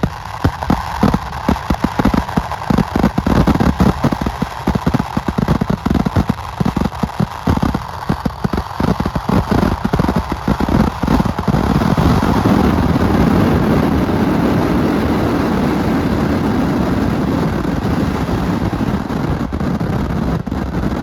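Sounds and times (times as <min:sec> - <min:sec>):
firecrackers bursting: 0:00.0 - 0:21.0.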